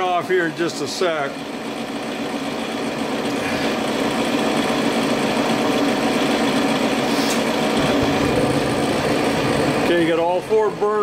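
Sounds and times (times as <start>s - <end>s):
gas forge mechanical hum: 0.0s - 11.0s
low rumble of gas flame: 0.0s - 11.0s.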